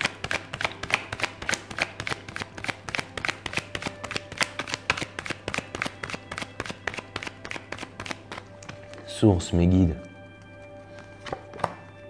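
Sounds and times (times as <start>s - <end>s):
cards being shuffled: 0.0s - 9.1s, 10.4s - 11.9s.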